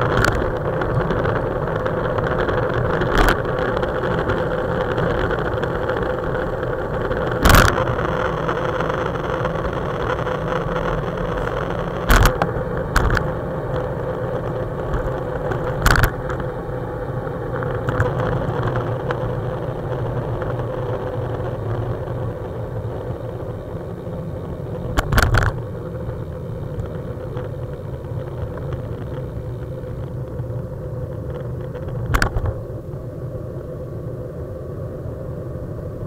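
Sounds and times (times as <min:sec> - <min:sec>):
road vibration: 0:00.0 - 0:36.0
wind rumble: 0:00.0 - 0:36.0.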